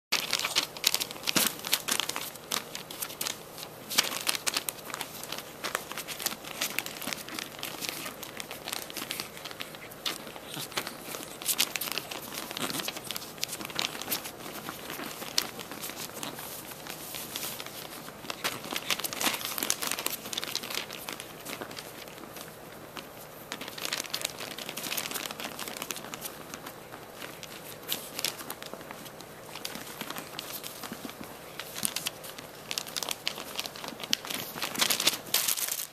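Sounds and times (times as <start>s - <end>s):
play tunnel crinkling: 0.1s - 35.9s.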